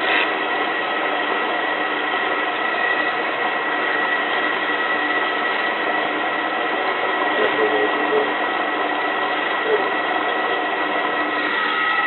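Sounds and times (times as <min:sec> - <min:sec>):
water rushing into washing machine: 0:00.0 - 0:12.0.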